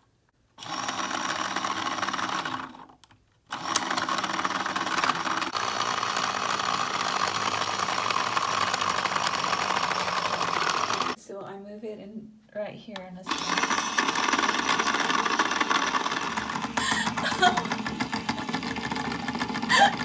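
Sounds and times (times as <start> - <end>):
small motor whirring: 0.6 - 11.2, 13.3 - 20.0.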